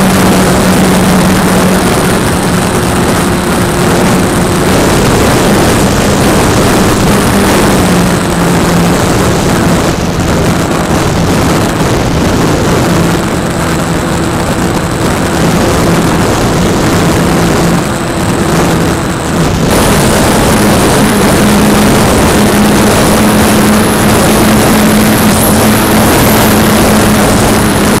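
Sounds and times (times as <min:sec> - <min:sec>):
model airplane motor droning: 0:00.0 - 0:28.0
wind on microphone: 0:00.0 - 0:28.0.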